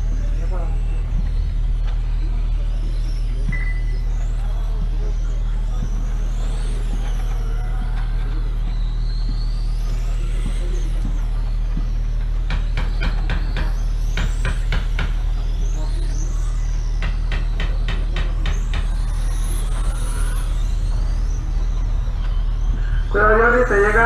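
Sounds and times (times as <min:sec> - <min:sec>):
small motors whining: 0:00.0 - 0:24.0
steady low hum: 0:00.0 - 0:24.0.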